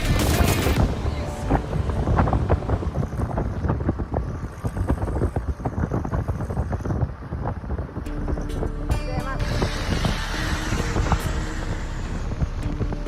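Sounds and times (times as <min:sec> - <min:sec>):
low vehicle rumble: 0:00.0 - 0:13.0
wind buffeting microphone: 0:00.0 - 0:13.0.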